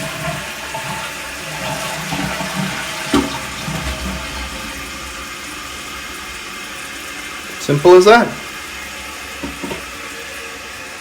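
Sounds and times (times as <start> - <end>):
toilet flushing and refilling: 0.0 - 11.0
water running: 0.0 - 11.0.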